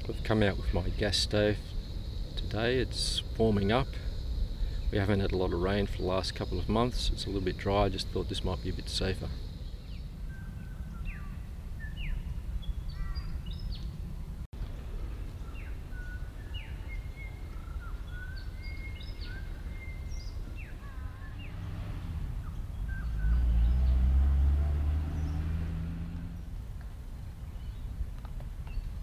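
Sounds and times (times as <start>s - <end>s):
small birds chirping: 0.0s - 24.2s, 24.9s - 29.0s.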